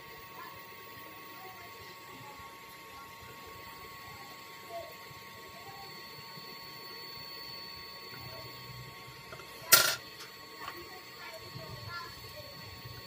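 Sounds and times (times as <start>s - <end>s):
faint workbench background: 0.0s - 13.0s.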